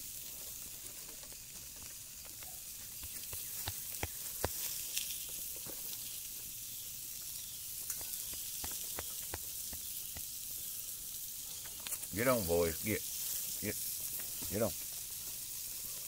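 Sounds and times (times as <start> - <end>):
burgers sizzling on a grill: 0.0 - 16.0
sharp pops and crackles: 0.1 - 16.0.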